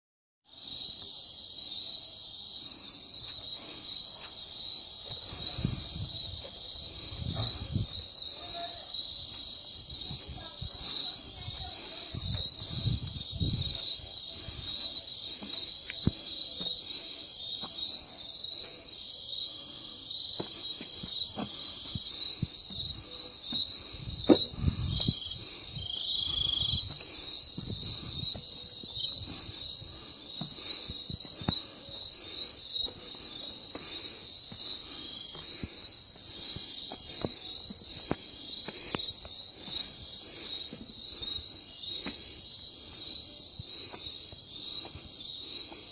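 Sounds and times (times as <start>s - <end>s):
night insect chorus trilling: 0.5s - 45.9s.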